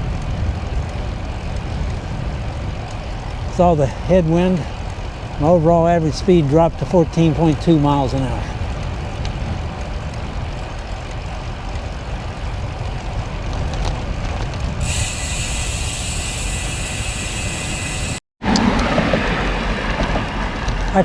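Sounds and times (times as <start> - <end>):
wind rumbling over microphone: 0.0 - 21.0
road traffic noise: 0.1 - 21.0.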